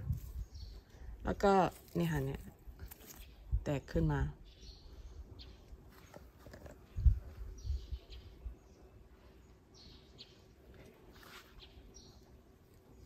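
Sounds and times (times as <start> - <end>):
birds chirping: 0.2 - 13.0.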